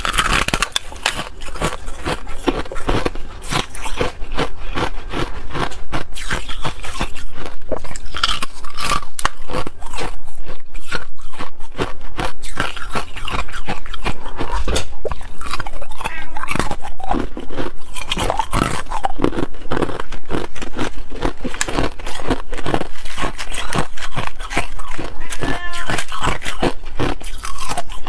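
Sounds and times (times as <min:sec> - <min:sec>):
ice being chewed crunching: 0:00.0 - 0:28.0.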